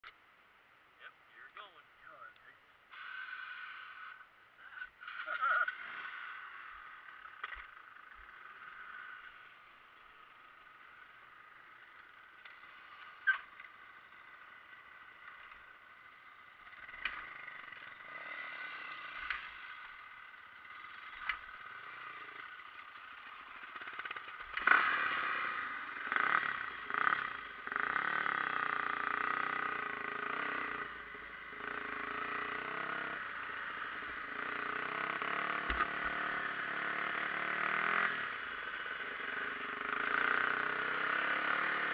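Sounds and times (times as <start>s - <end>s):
dirt bike engine running: 2.9s - 41.9s.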